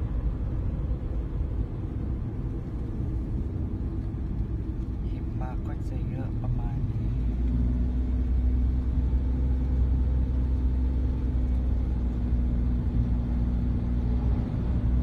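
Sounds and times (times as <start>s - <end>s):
car interior road rumble: 0.0s - 15.0s
constant hum: 0.0s - 15.0s.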